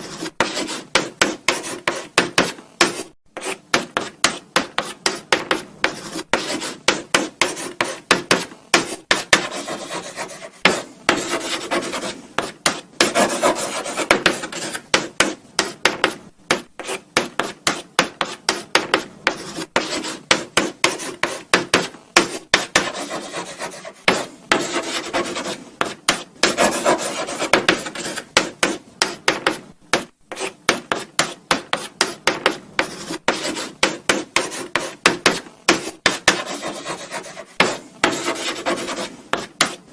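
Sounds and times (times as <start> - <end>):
chalk scratching on blackboard: 0.0 - 39.9.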